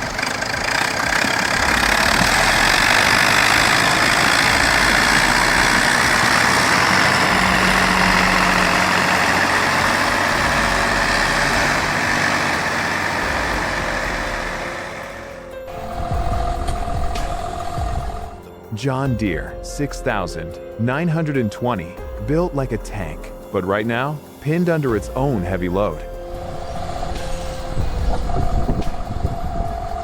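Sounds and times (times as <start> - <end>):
tractor engine under load: 0.0 - 21.4, 24.9 - 30.0.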